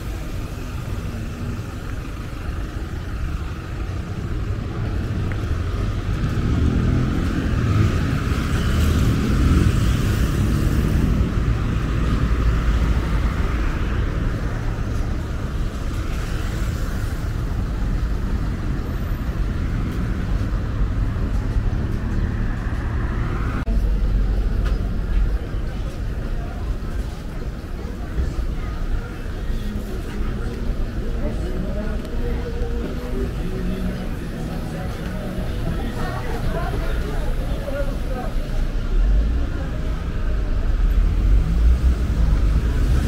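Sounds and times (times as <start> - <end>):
rumble of passing vehicles: 0.0 - 43.0.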